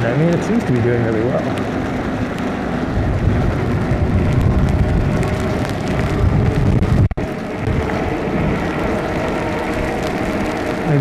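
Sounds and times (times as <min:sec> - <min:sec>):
rain: 0:00.0 - 0:11.0
wind rumble on microphone: 0:00.0 - 0:11.0.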